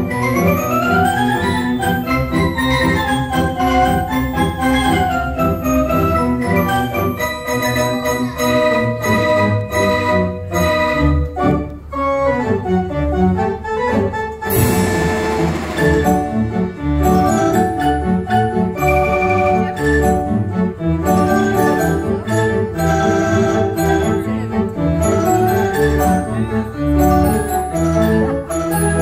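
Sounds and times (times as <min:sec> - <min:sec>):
pipe organ playing: 0:00.0 - 0:29.0.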